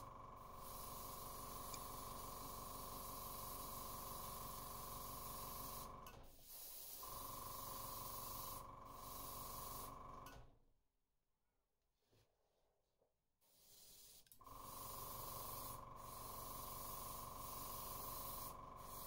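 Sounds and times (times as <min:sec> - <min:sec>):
airbrush air hiss: 0:00.0 - 0:10.0, 0:13.5 - 0:19.0.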